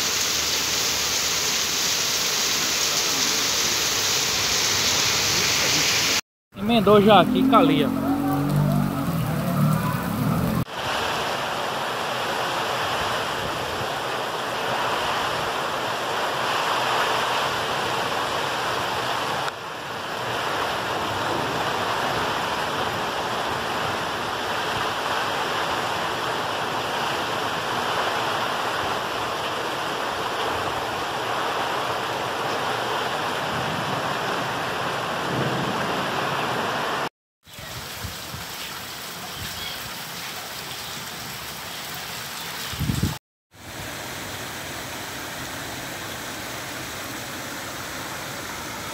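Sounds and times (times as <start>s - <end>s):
rain falling steadily: 0.0s - 48.9s.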